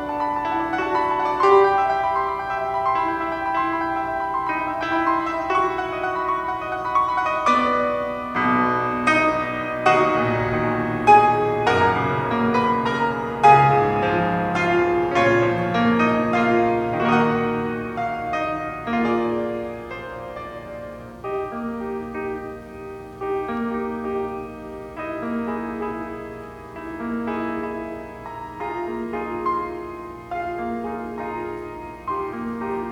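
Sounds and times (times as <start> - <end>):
piano playing: 0.0 - 32.9.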